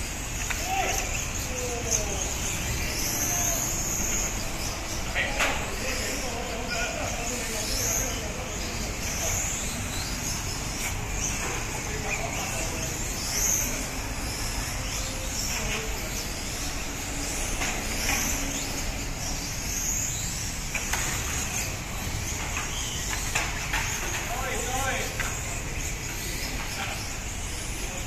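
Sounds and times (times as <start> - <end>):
rc car motor whine: 0.0 - 28.0
steady background noise: 0.0 - 28.0.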